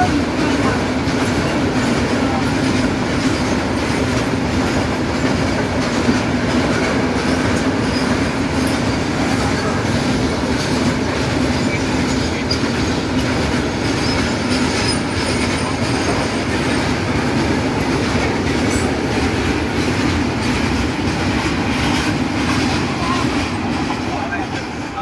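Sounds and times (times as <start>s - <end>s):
train wheels rolling on rails: 0.0s - 25.0s.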